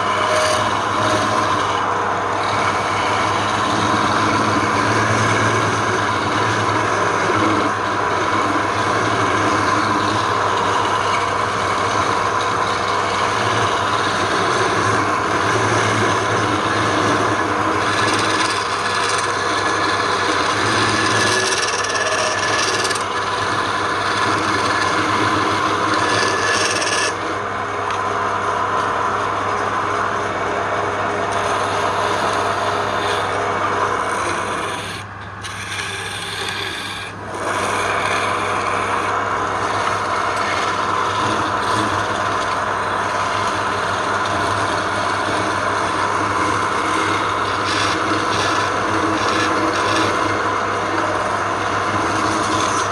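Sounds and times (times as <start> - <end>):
power tool rasping wood: 0.0 - 52.9.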